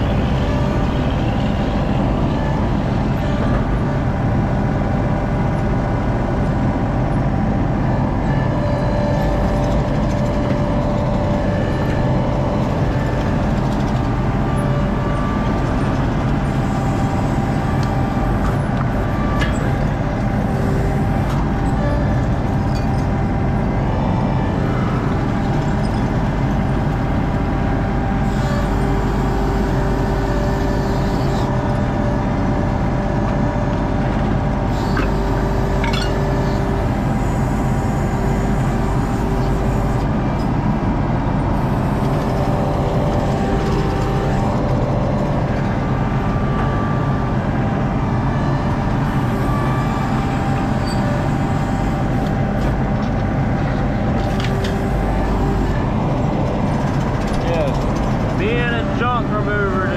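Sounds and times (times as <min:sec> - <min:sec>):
hydraulic whine: 0:00.0 - 0:59.9
skid steer engine running: 0:00.0 - 0:59.9.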